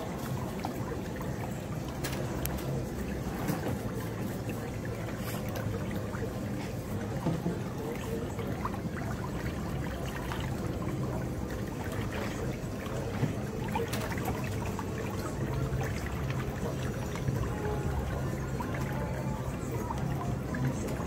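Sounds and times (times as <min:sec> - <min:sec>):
whirlpool water bubbling: 0:00.0 - 0:21.0.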